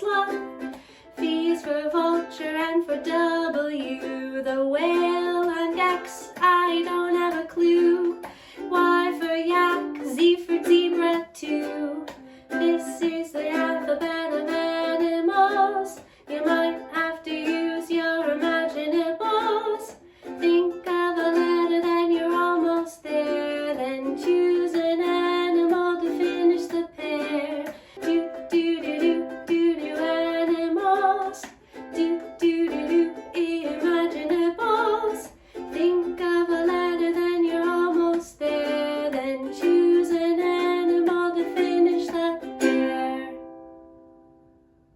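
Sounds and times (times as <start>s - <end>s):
children's singalong song: 0.0s - 43.7s.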